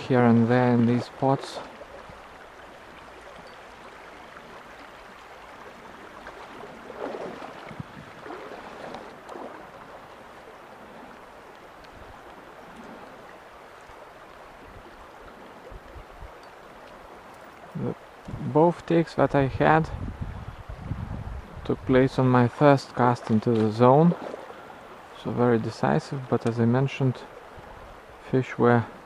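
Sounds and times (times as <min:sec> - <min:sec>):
stream flowing: 0:00.0 - 0:29.0.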